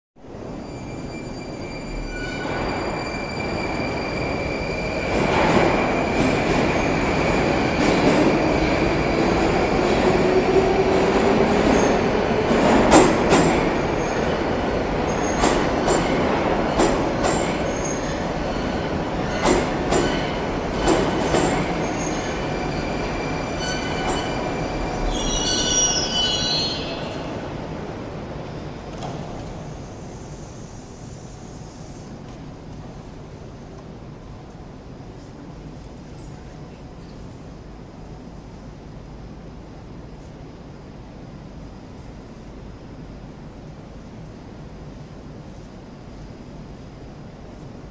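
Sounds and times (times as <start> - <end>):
metro train rumble: 0.2 - 47.9.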